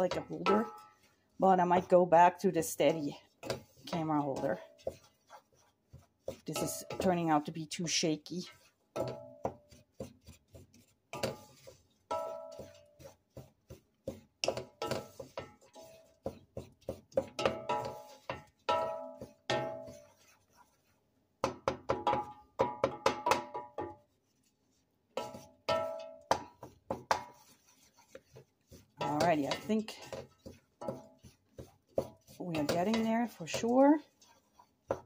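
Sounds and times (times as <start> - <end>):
wooden spoon knocking on metal pot: 0.0 - 5.3, 6.2 - 7.9, 8.5 - 20.2, 21.4 - 24.1, 25.1 - 35.0.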